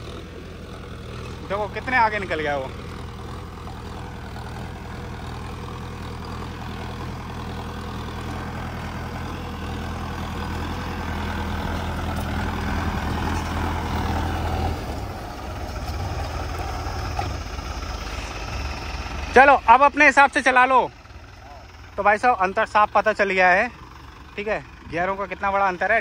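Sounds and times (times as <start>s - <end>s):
tractor engines droning: 0.0s - 26.0s.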